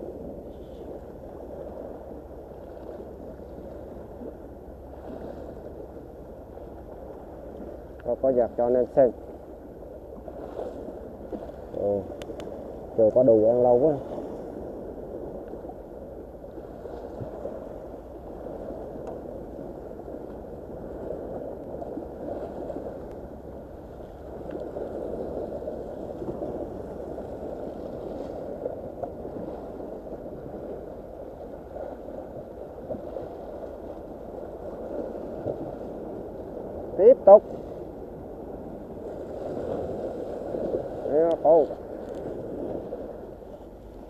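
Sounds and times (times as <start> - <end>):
waves breaking on rocky shore: 0.0 - 44.0.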